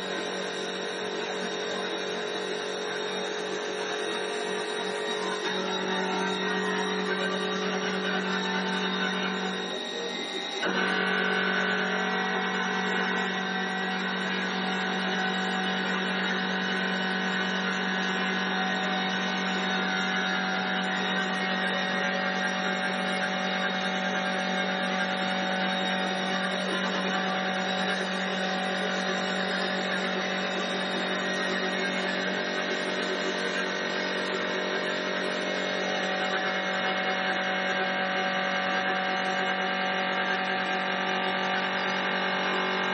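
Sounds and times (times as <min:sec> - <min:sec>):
wood cutting noise: 0:00.0 - 0:42.9
wood lathe machine hum: 0:00.0 - 0:42.9.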